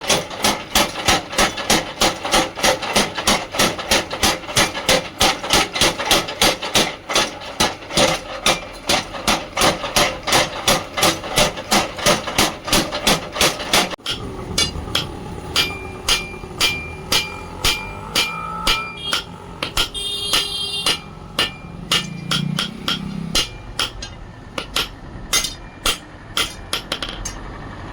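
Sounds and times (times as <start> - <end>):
hammer striking metal on anvil: 0.0 - 27.5.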